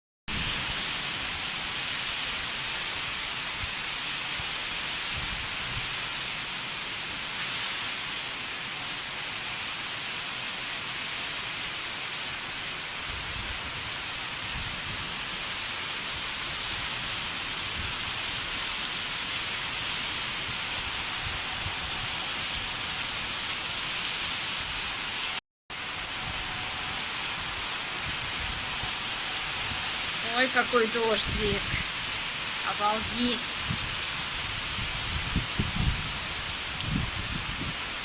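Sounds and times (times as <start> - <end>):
rain falling steadily: 0.3 - 38.0.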